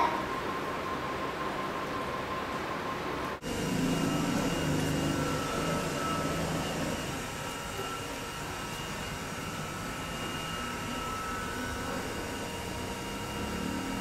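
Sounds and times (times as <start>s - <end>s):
faint whining tones: 0.0s - 14.0s.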